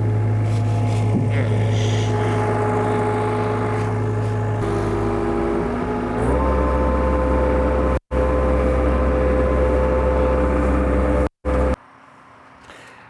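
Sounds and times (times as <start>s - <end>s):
engine droning at high speed: 0.0s - 11.8s.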